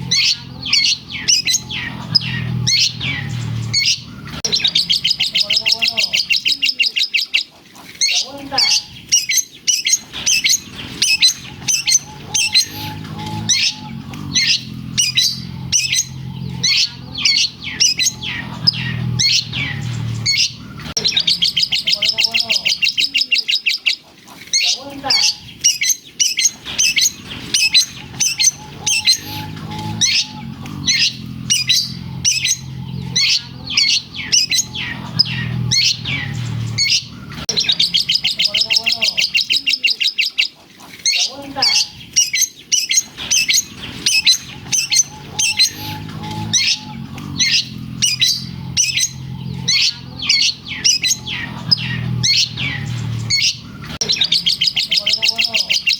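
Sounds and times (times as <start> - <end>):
bird singing chirps and trills: 0.0 - 55.9.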